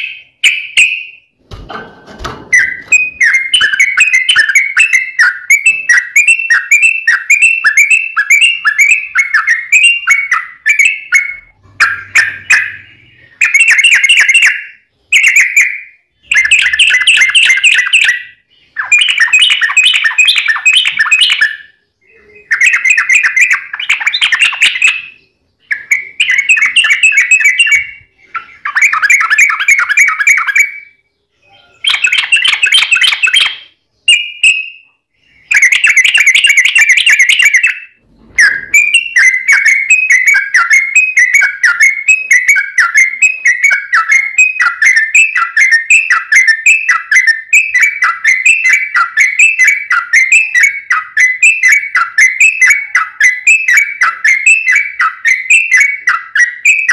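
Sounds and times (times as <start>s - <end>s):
bird singing bubbly chattering phrases: 2.5s - 56.9s.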